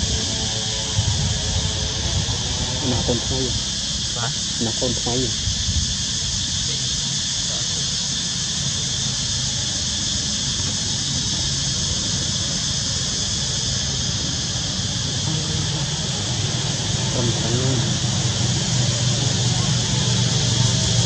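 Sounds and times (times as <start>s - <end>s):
high insect drone: 0.0s - 21.0s
low hum: 0.0s - 21.0s.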